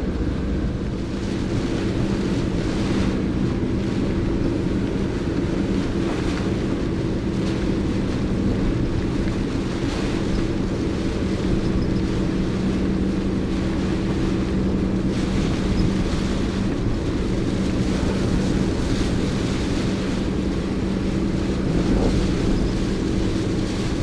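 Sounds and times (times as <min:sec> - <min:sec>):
low motor-like hum: 0:00.0 - 0:24.0
strong wind buffeting microphone: 0:00.0 - 0:24.0.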